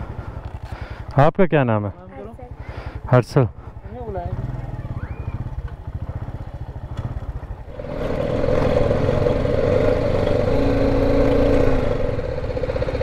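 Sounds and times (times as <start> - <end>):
motorcycle engine running: 0.0 - 1.2, 2.0 - 13.0
wind and road noise: 0.0 - 13.0.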